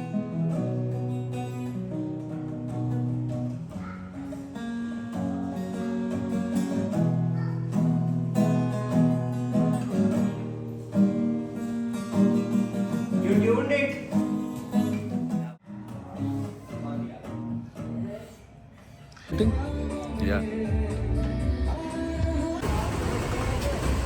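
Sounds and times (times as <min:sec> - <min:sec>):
guitar music: 0:00.0 - 0:18.5, 0:19.3 - 0:22.6.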